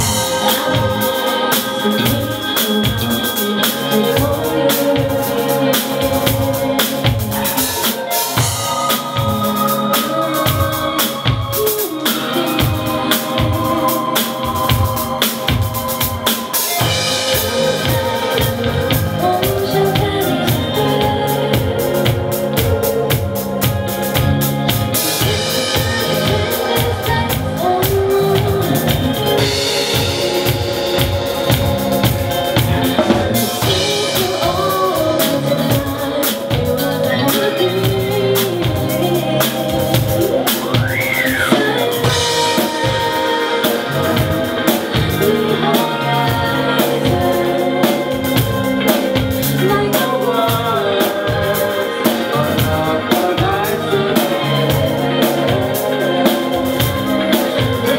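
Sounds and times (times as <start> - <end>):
drum kit groove: 0.0 - 57.9
gliding melodic lead line: 0.0 - 57.9
keyboard chords: 0.0 - 57.9.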